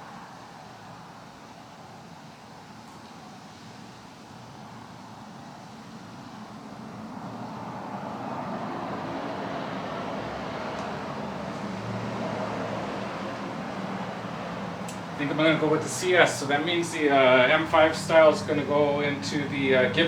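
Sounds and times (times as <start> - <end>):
vehicle engine and tyre noise: 0.0 - 20.0.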